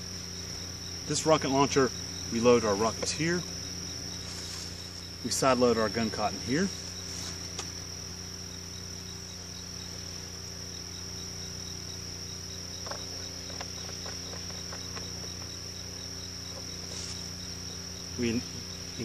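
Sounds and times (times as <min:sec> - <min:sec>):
insects trilling: 0:00.0 - 0:19.0
low steady hum: 0:00.0 - 0:19.0.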